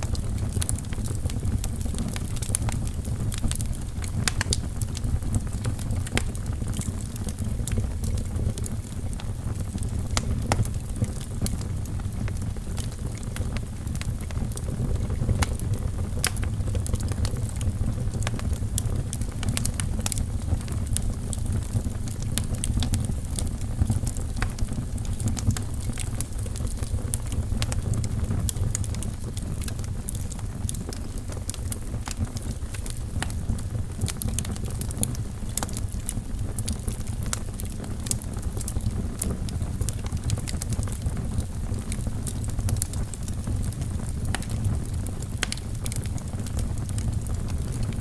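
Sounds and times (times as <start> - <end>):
logs crackling and popping: 0.0 - 48.0
low rumble of flames: 0.0 - 48.0.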